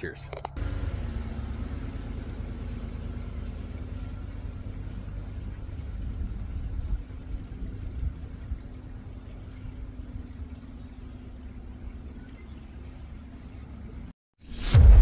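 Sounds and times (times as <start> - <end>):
truck engine running: 0.2 - 14.1.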